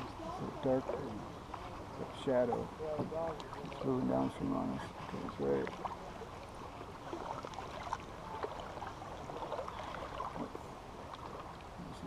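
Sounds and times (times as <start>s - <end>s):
river water running over rocks: 0.0s - 12.0s.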